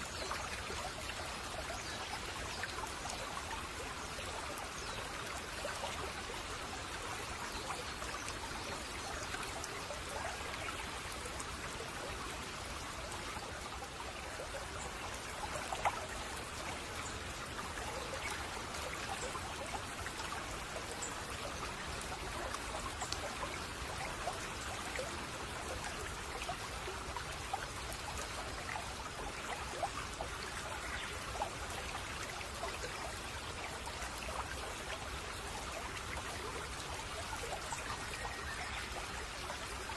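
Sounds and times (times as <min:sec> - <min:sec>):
small water splashes: 0:00.0 - 0:39.9
stream babbling: 0:00.0 - 0:39.9.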